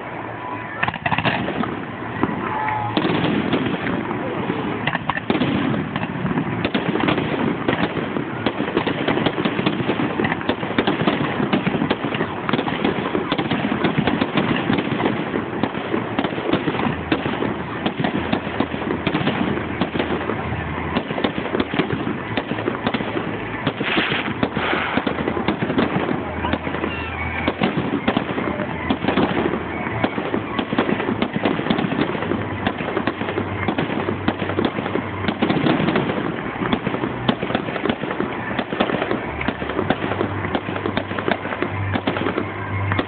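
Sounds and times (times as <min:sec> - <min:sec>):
firework bangs and crackling: 0:00.0 - 0:43.0.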